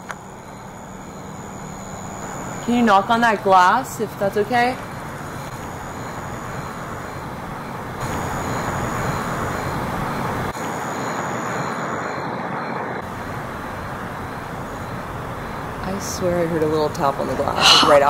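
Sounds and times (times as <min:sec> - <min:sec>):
distant road traffic rumble: 0:00.0 - 0:10.6, 0:12.7 - 0:18.0.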